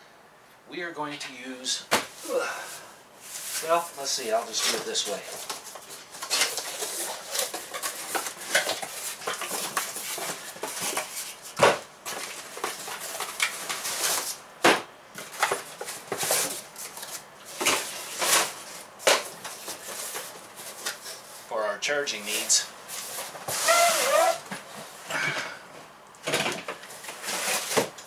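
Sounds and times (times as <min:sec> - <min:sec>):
cardboard rustling and scraping: 0:03.2 - 0:21.5, 0:22.3 - 0:25.1, 0:26.5 - 0:28.0.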